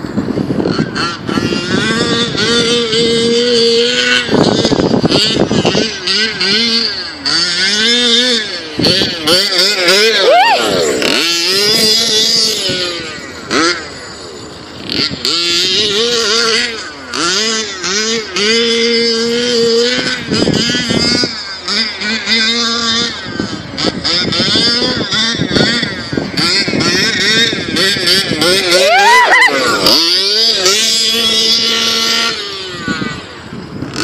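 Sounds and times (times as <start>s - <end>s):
model truck engine revving: 0.0s - 34.0s.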